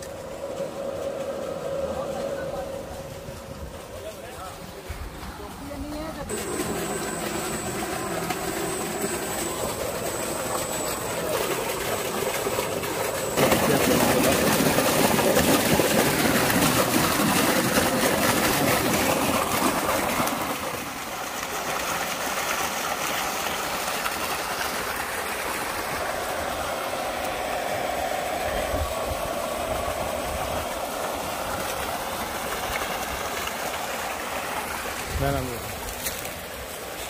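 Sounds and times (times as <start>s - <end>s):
water gushing from pipe: 6.2s - 37.0s.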